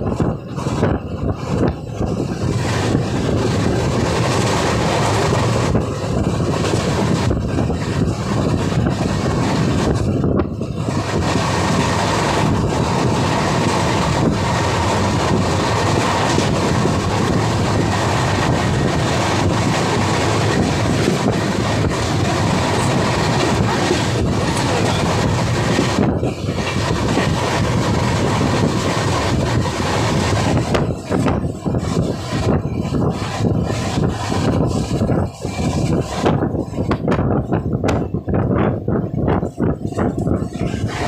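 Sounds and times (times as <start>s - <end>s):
clacks over rail joints: 0.0s - 41.0s
train wheels rumbling on rails: 0.0s - 41.0s.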